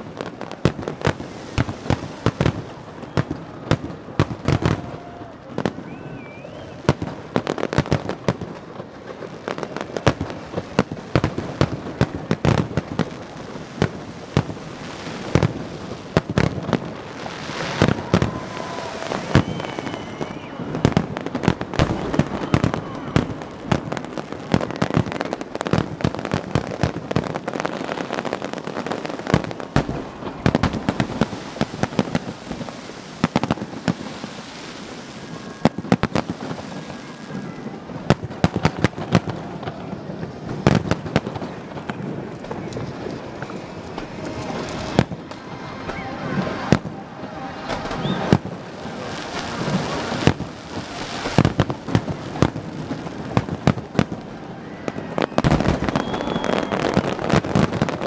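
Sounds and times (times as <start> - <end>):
fireworks barrage: 0.0 - 58.0.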